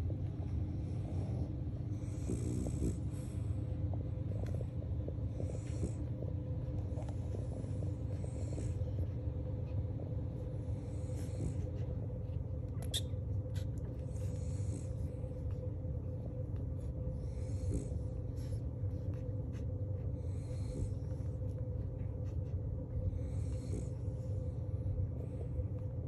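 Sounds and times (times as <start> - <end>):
puppies suckling: 0.0 - 23.2
low hum: 0.0 - 26.0.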